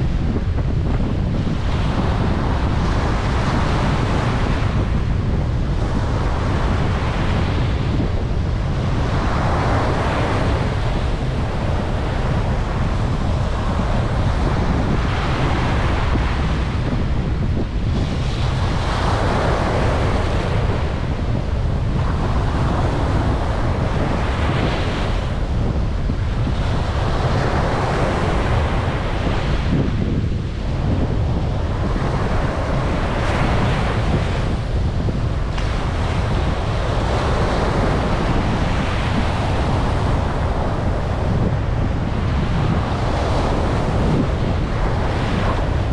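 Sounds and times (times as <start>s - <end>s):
surf breaking on a beach: 0.0s - 45.9s
wind rumble on microphone: 0.0s - 45.9s.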